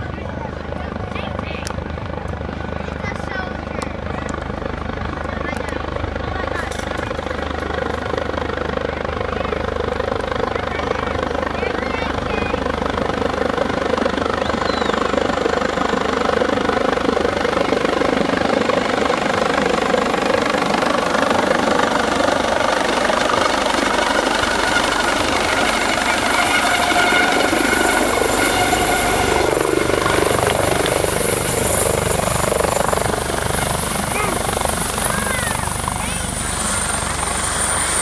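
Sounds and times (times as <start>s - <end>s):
helicopter rotor and engine: 0.0s - 38.0s
high turbine whine: 0.0s - 38.0s.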